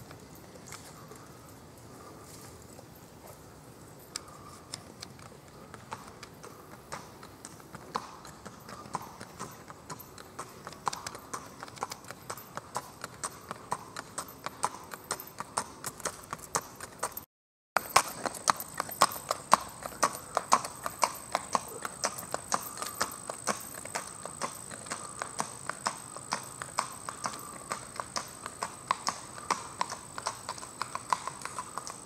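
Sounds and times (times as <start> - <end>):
horse hooves on asphalt: 0.0 - 32.0.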